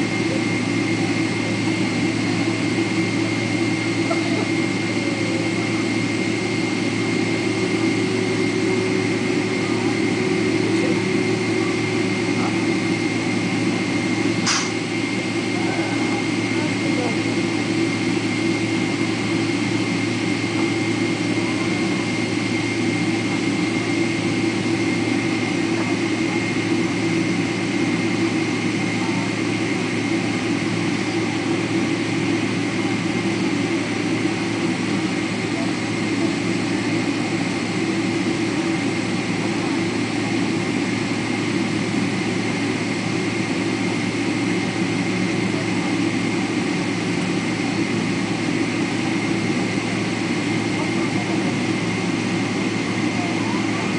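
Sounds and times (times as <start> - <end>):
jet engines humming in cabin: 0.0 - 53.9.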